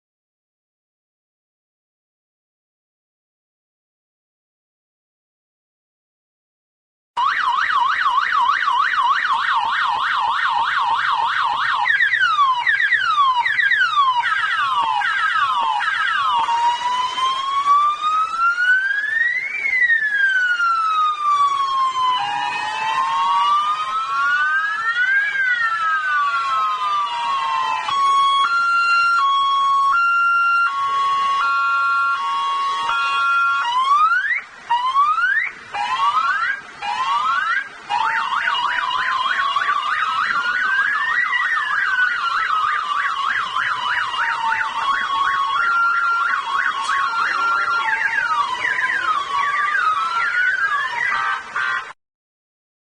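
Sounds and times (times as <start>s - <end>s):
police car siren: 7.2s - 52.0s.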